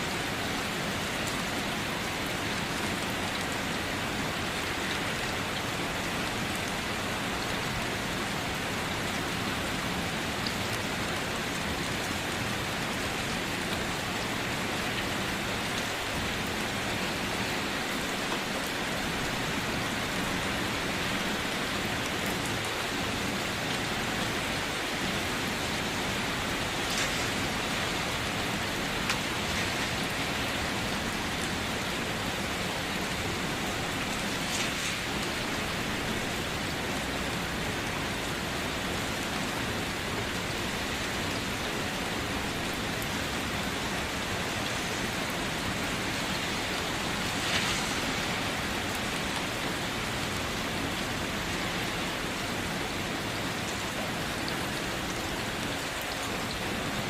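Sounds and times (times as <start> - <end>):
steady rain pattering: 0.0 - 57.0.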